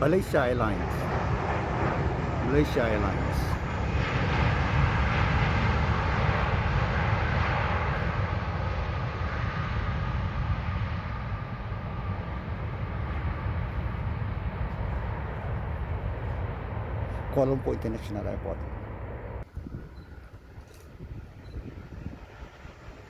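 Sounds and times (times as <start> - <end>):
jet engine rushing rumble: 0.0 - 23.0.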